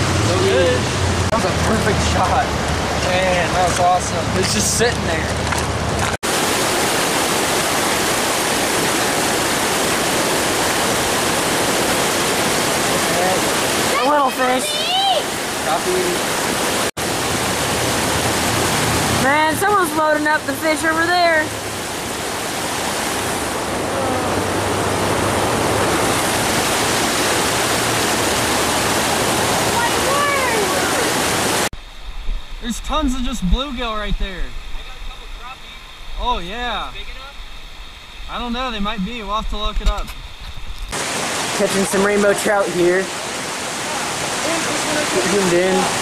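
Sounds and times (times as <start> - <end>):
water rushing over rocks: 0.0 - 31.7, 37.8 - 46.0.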